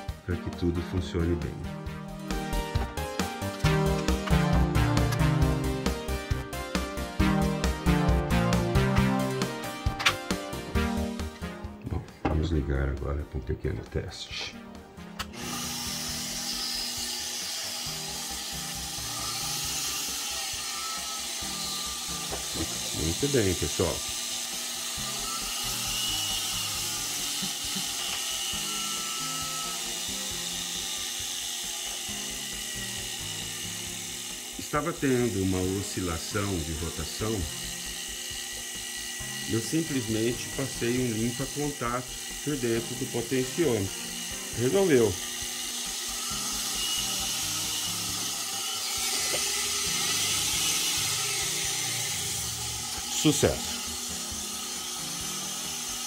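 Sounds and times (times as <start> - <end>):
electric motor whining: 1.9 - 11.5, 15.1 - 56.0.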